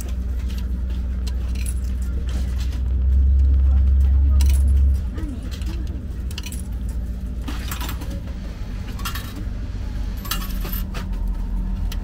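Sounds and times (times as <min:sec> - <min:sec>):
coins clinking in coin mechanism: 0:00.0 - 0:02.9, 0:04.3 - 0:11.3
steady low rumble: 0:00.0 - 0:12.0.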